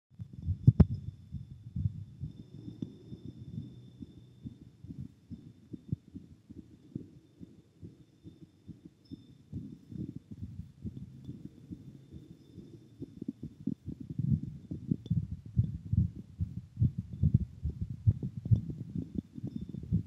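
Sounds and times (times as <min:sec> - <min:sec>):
heartbeat thumps: 0:00.2 - 0:20.0.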